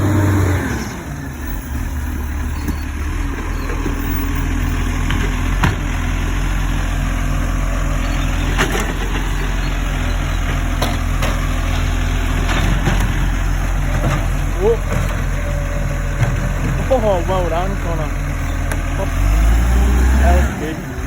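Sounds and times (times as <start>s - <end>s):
garbage truck engine idling: 0.0s - 21.0s.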